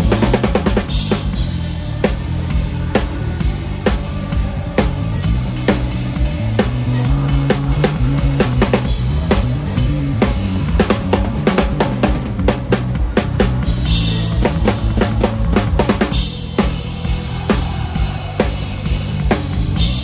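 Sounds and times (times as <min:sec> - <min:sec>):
bass line: 0:00.0 - 0:20.0
drum kit playing a pop groove: 0:00.0 - 0:20.0.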